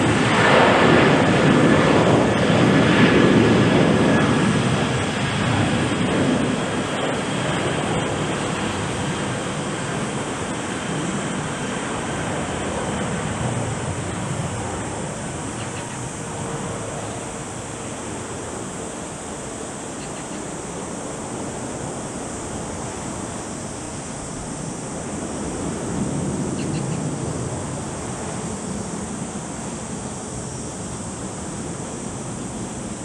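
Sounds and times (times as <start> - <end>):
jet engines roaring at take-off: 0.0 - 33.0.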